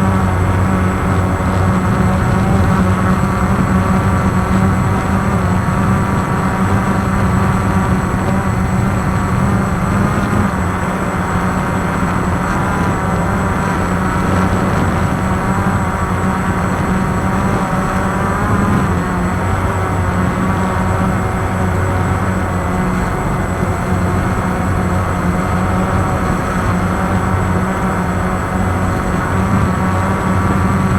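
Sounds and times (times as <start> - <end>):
quadcopter propellers whirring: 0.0 - 30.9
steady low hum: 0.0 - 30.9.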